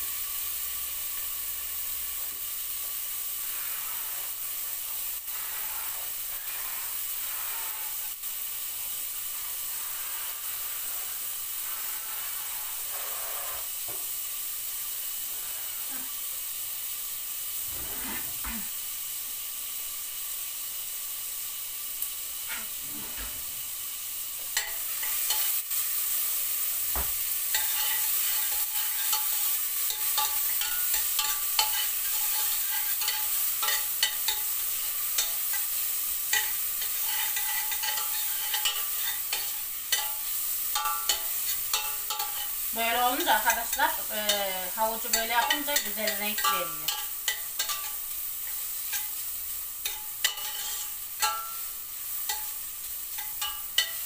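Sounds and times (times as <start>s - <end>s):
carrot sizzling in oil: 0.0s - 54.0s.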